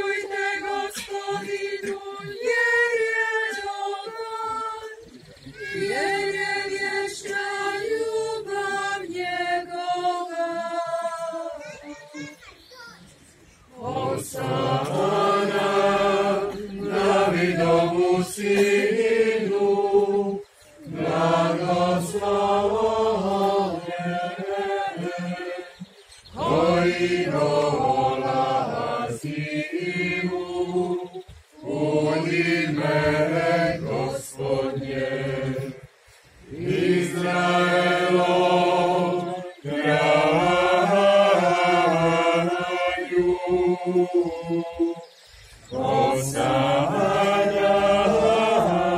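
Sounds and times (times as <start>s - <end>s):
voices singing church chant: 0.0s - 12.3s, 13.2s - 48.9s.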